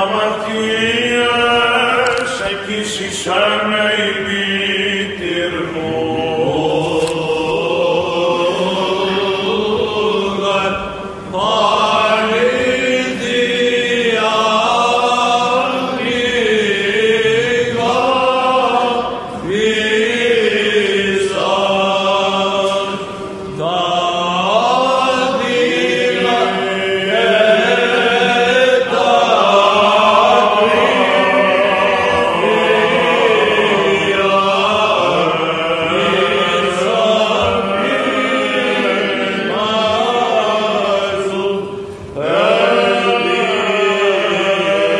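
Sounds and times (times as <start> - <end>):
held vocal drone: 0.0 - 44.9
melismatic chanting voice: 0.0 - 44.9.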